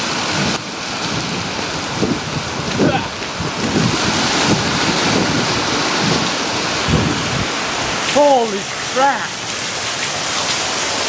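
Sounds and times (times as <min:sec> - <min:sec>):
wind gusting on microphone: 0:00.0 - 0:10.8
heavy rain falling: 0:00.0 - 0:11.0.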